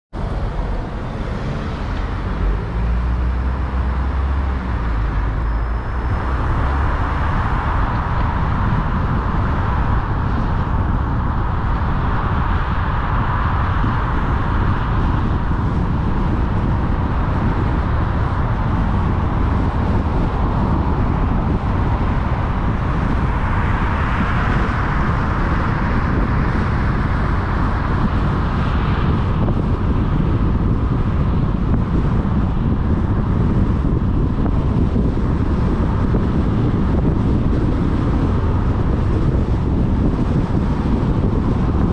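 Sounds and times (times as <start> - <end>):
car engine hum: 0.1 - 41.9
tyres on tarmac: 0.1 - 41.9.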